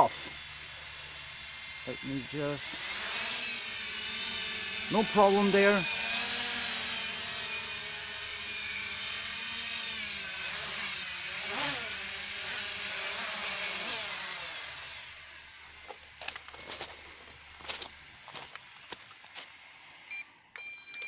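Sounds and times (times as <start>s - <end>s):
drone motors and propellers whining: 0.0s - 20.2s.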